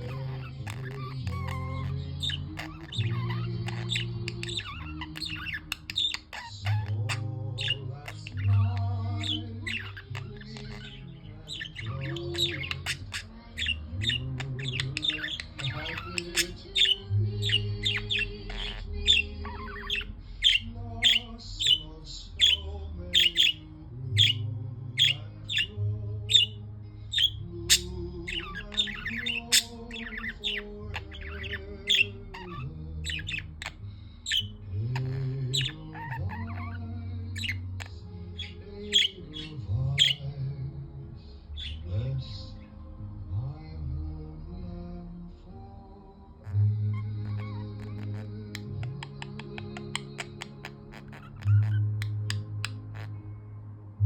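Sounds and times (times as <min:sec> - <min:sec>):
budgerigars chirping and squawking: 0:00.0 - 0:43.3, 0:46.4 - 0:53.5.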